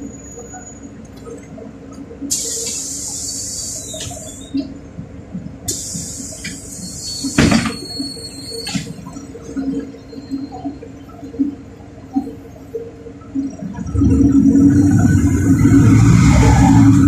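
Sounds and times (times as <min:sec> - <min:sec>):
bus engine humming: 0:00.0 - 0:17.0.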